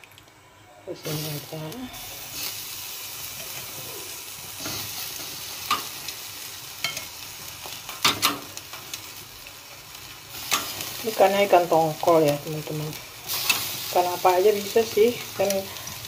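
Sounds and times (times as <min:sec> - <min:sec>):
fish sizzling on a grill: 0:00.9 - 0:16.0.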